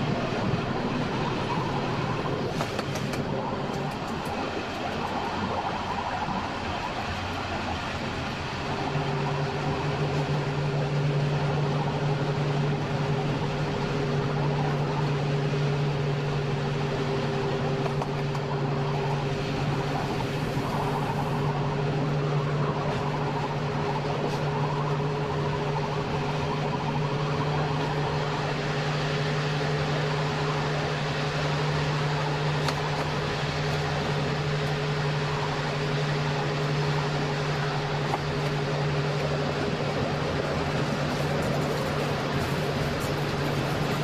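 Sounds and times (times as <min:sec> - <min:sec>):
wheels rumbling on rails: 0:00.0 - 0:44.0.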